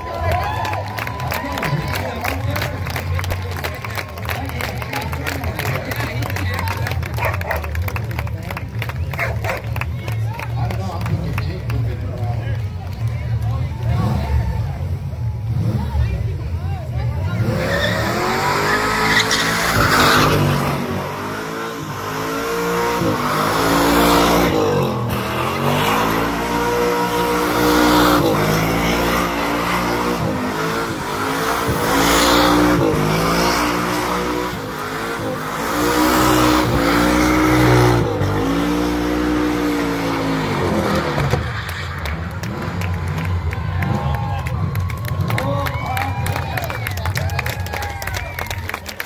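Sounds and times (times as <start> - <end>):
car engine revving: 0.0 - 45.7.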